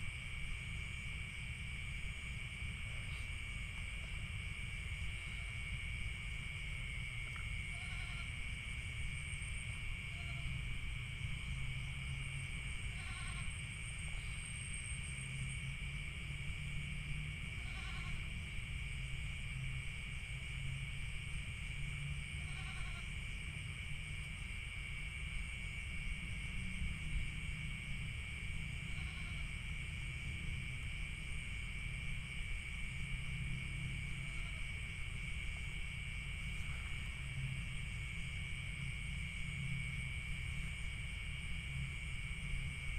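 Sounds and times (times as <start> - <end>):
high-pitched insect drones: 0.0 - 42.9.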